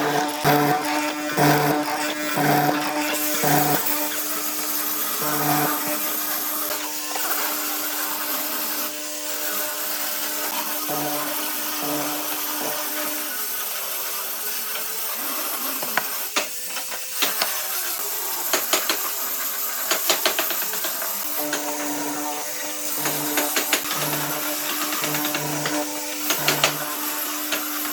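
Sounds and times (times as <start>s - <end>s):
power tool motor running: 0.0s - 27.9s.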